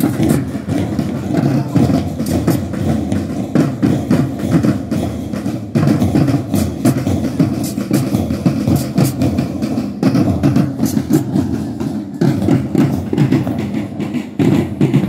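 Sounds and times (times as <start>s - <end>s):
marching band drums: 0.0s - 15.0s.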